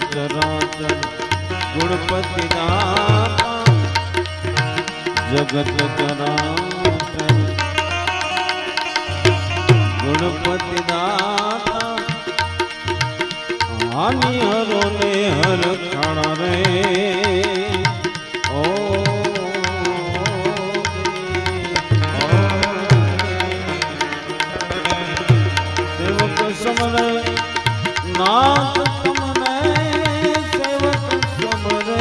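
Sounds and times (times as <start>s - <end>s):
harmonium: 0.0s - 32.0s
tabla rhythm: 0.0s - 32.0s.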